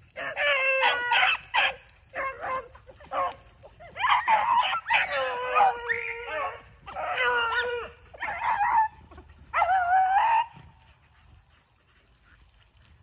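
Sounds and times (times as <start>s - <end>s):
hounds baying: 0.1s - 13.0s.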